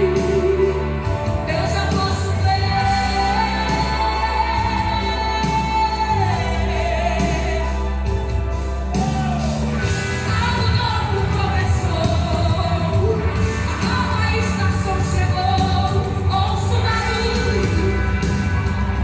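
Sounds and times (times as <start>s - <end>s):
worship song with band: 0.0s - 19.0s.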